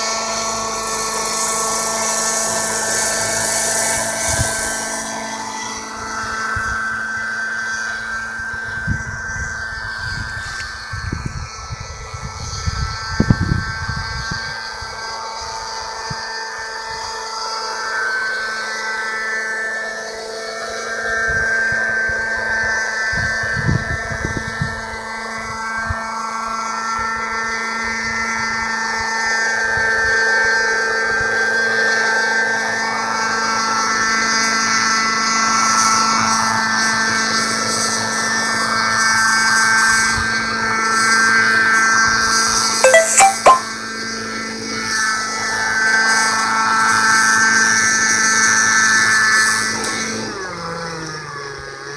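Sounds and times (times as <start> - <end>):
model helicopter engine whine: 0.0 - 41.4, 45.9 - 51.9.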